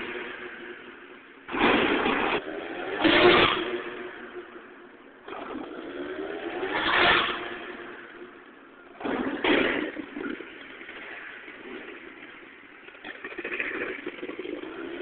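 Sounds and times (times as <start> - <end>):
monster truck engine revving: 1.5 - 4.6, 5.2 - 8.3, 8.9 - 15.0.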